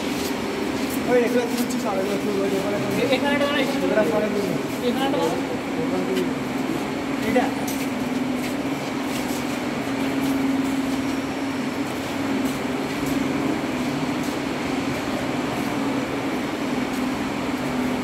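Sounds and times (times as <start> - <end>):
ventilation hum and hiss: 0.0 - 18.0.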